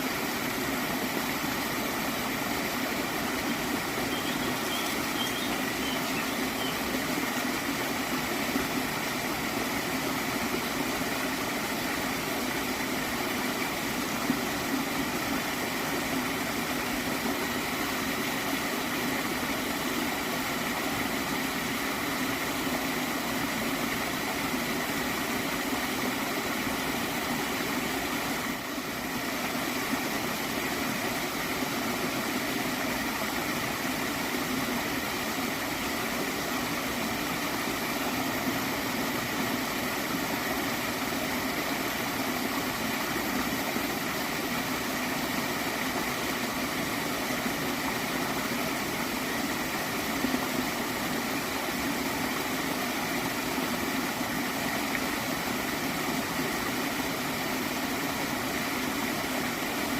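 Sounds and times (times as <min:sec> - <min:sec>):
water stream gurgling: 0:00.0 - 0:59.9.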